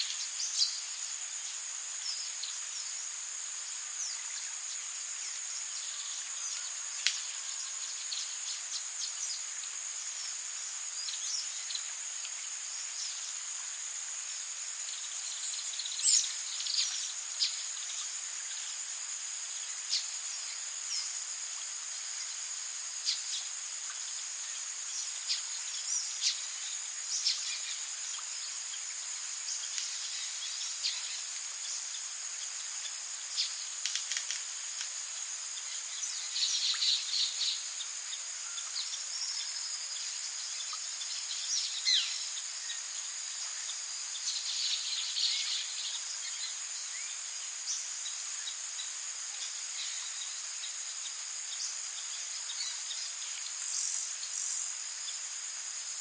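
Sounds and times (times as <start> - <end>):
rain hiss: 0.0 - 56.0
high-pitched insect drone: 0.2 - 56.0.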